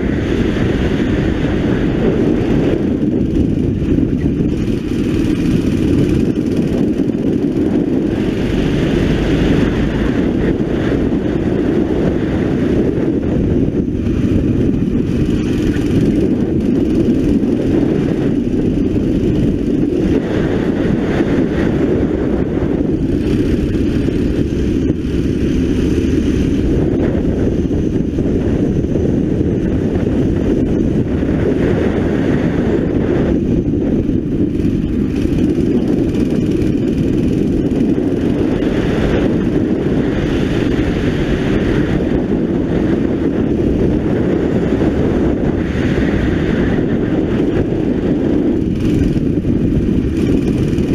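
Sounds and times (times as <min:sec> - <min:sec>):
kart engine running hard: 0:00.0 - 0:50.9
wind on microphone: 0:00.0 - 0:50.9.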